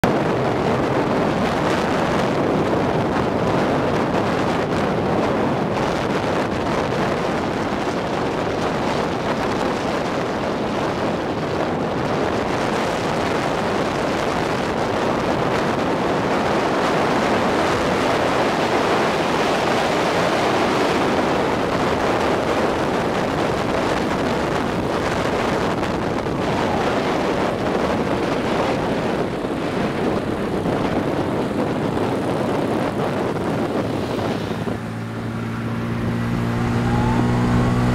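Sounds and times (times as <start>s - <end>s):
road noise: 0.0s - 37.9s
wind rushing on microphone: 0.0s - 37.9s.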